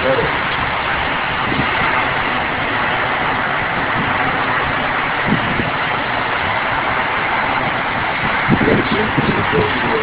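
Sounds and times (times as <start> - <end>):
storm wind and rain: 0.0 - 10.0.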